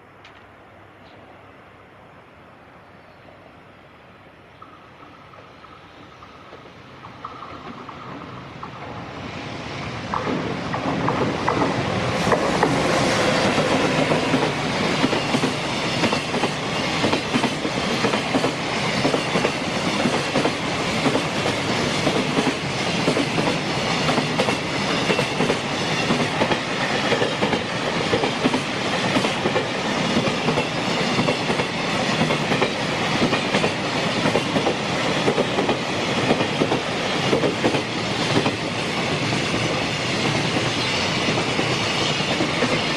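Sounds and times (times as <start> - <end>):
freight train passing: 0.0 - 42.9.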